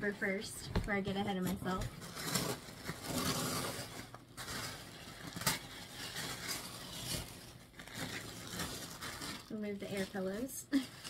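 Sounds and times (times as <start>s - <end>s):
tissue paper rustling: 0.2s - 11.0s.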